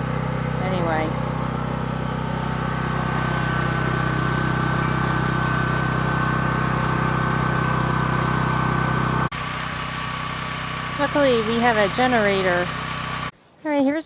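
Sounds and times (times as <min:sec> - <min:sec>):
generator engine running: 0:00.0 - 0:13.3.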